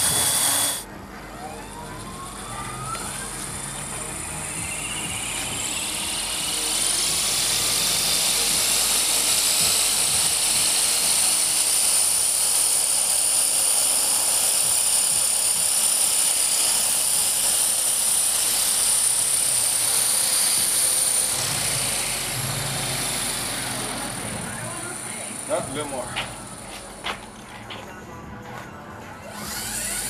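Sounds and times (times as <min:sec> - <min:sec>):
rc helicopter rotor whine: 0:00.0 - 0:27.3, 0:29.2 - 0:30.0.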